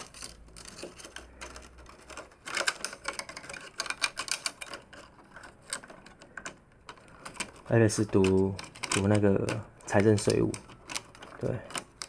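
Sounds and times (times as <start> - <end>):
clicks on plastic parts: 0.0 - 12.0.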